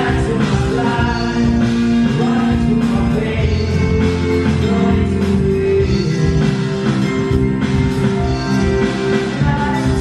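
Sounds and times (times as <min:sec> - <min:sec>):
guitars: 0:00.0 - 0:10.0
live band playing: 0:00.0 - 0:10.0.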